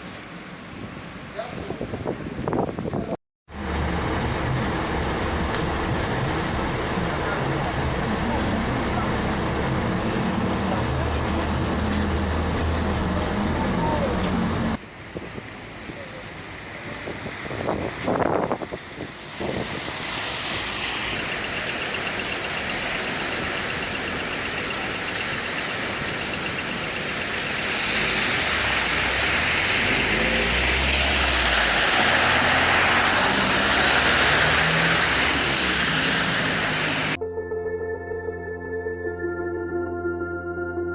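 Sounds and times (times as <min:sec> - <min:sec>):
tyres on wet road: 0:00.0 - 0:37.2
vehicle engine rumbling: 0:01.7 - 0:37.2.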